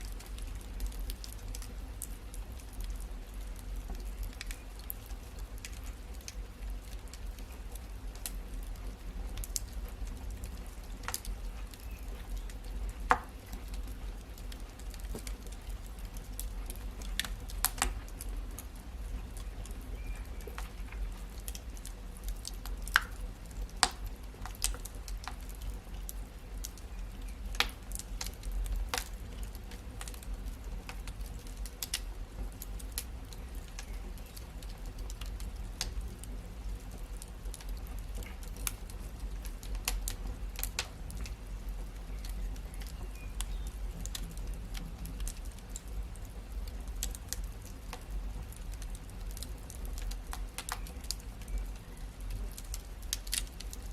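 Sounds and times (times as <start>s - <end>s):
fire popping and snapping: 0.0s - 53.9s
wood fire crackling: 0.0s - 53.9s.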